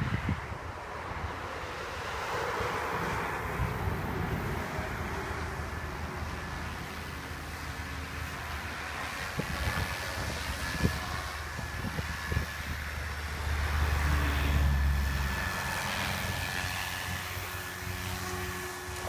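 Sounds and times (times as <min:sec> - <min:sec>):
rc helicopter motor whine: 0:00.0 - 0:19.0
rotor noise: 0:00.0 - 0:19.0.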